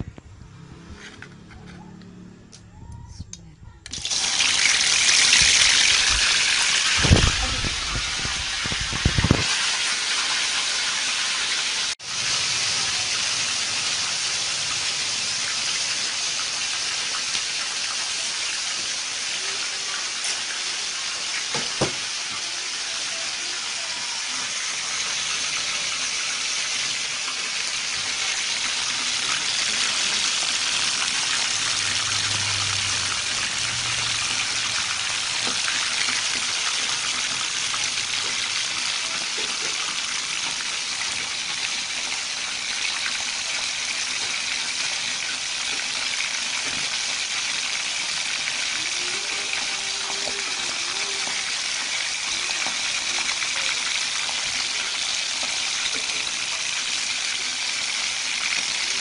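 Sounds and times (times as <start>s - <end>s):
fish deep-frying in sizzling oil: 3.9s - 59.0s.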